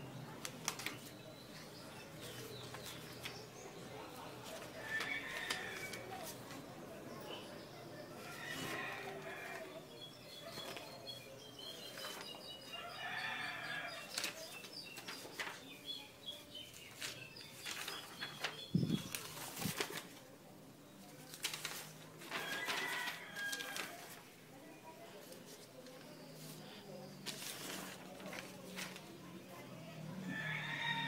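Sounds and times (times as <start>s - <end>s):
paper posters rustling: 0.0s - 7.5s, 8.1s - 29.5s.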